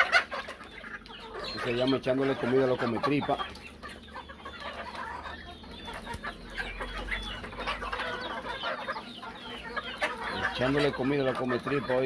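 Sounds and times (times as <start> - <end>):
young chickens clucking and chirping: 0.0 - 12.0.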